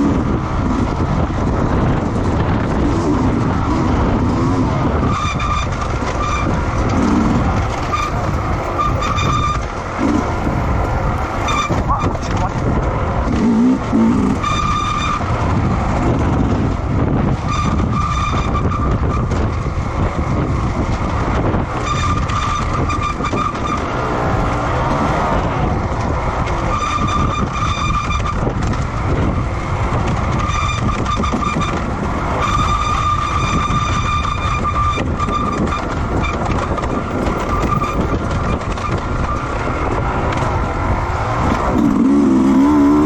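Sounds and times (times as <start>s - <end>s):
continuous engine rumble: 0.0s - 43.0s
racing motorcycle engines revving: 0.0s - 43.0s.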